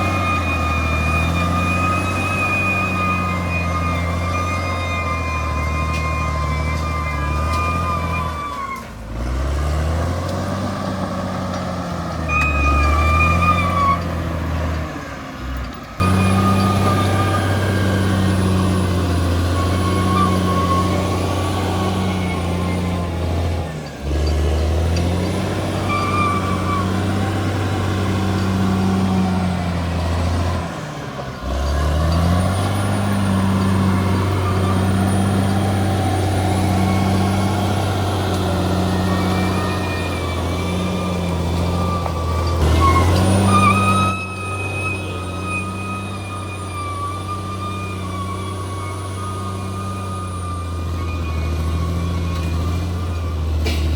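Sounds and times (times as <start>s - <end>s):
bulldozer diesel engine: 0.0s - 53.9s
high squeals of steel tracks: 0.0s - 53.9s.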